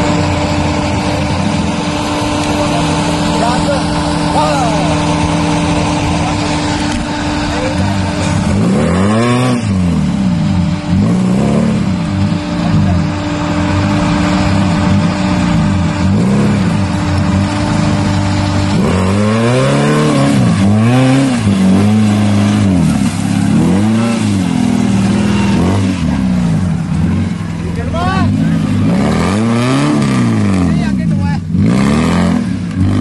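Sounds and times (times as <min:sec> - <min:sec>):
engine revving under load: 0:00.0 - 0:33.0.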